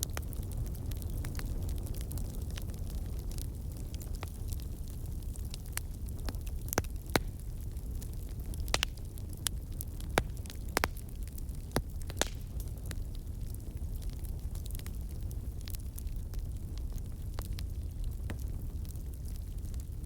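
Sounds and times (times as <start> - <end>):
burning wood crackling and popping: 0.0 - 20.0
campfire flames rumbling: 0.0 - 20.0.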